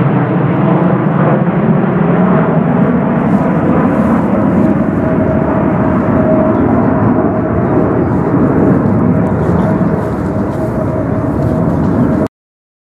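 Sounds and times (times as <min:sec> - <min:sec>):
fighter jets passing overhead: 0:00.0 - 0:12.3.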